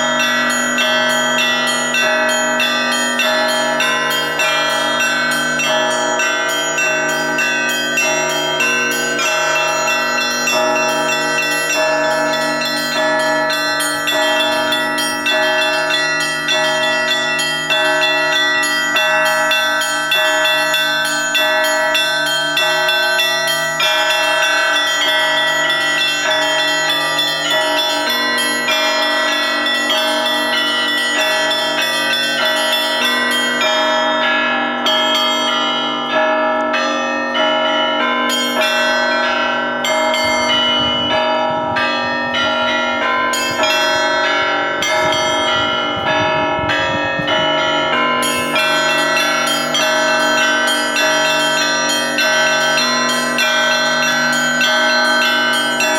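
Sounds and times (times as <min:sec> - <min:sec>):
hum of large bells: 0:00.0 - 0:55.9
small bells struck rapidly: 0:00.0 - 0:55.9.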